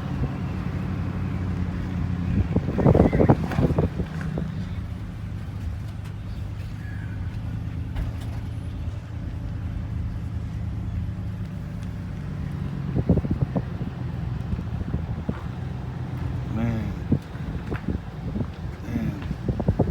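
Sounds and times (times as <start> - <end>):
car engine and road noise: 0.0 - 19.9.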